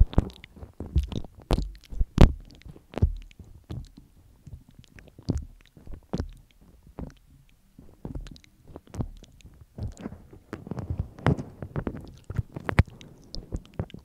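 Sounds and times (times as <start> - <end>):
wet lip smacks: 0.0 - 10.1, 11.8 - 14.0
tongue licking microphone: 0.0 - 14.0.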